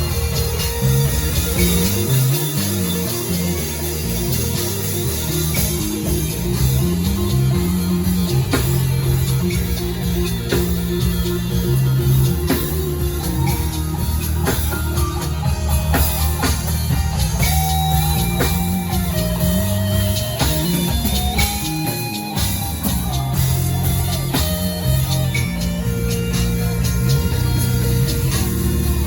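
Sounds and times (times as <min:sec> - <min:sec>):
live band playing: 0:00.0 - 0:29.0.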